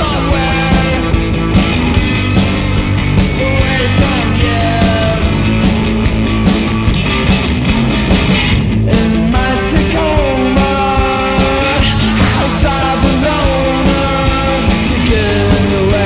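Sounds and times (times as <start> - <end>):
loud rock band playing: 0.0 - 16.0
steady drum beat: 0.0 - 16.0.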